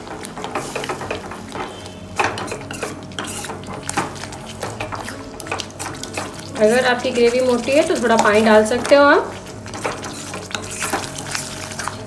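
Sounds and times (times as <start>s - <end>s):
spatula scraping metal pot: 0.0s - 12.0s.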